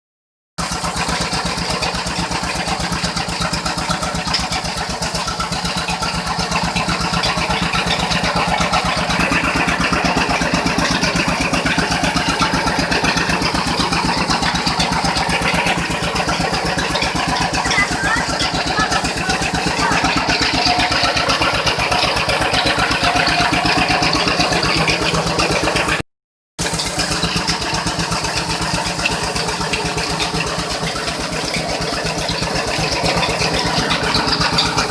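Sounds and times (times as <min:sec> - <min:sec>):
mill machinery droning: 0:00.6 - 0:26.0, 0:26.6 - 0:34.9.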